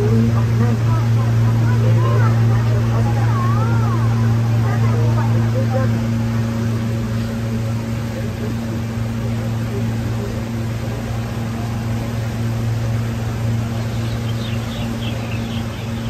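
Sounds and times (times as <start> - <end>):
constant background noise: 0.0 - 16.0
low mechanical hum: 0.0 - 16.0.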